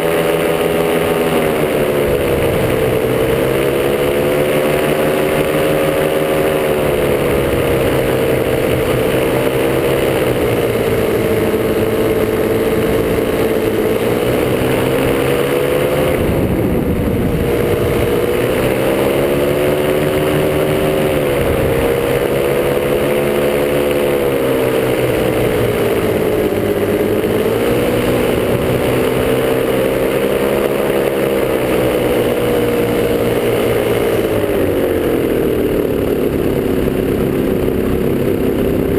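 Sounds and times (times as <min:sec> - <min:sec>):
two-stroke paramotor engine running: 0:00.0 - 0:38.9.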